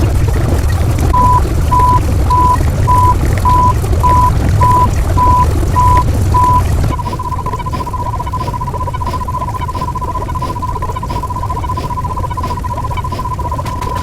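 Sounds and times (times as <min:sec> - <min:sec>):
reversing alarm beeping: 0:01.2 - 0:14.0.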